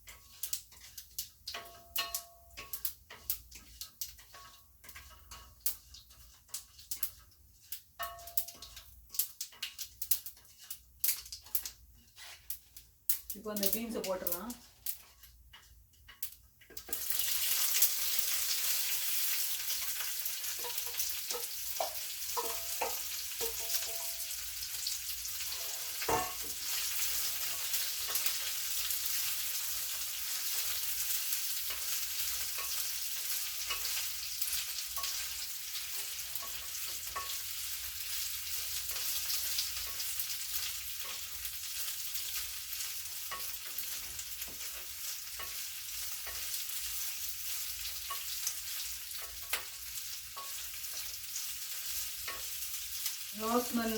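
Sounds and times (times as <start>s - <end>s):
stirring clicks in pan: 0.0s - 53.3s
beans sizzling in hot oil: 0.0s - 53.9s.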